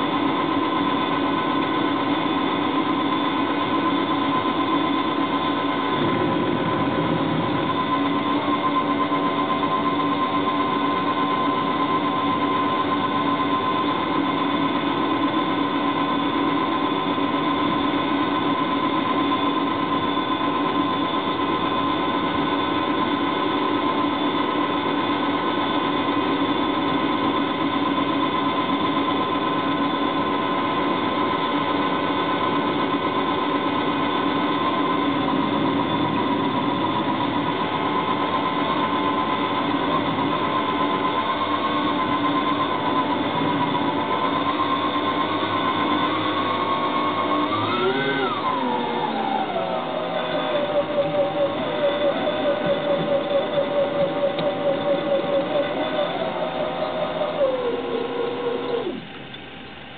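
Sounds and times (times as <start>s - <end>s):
small motor and gearing whining: 0.0s - 59.9s.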